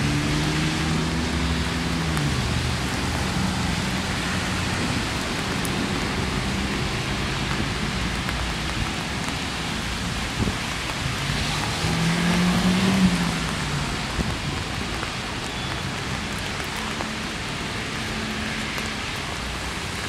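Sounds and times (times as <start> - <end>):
rain falling on wet paving: 0.0 - 20.0.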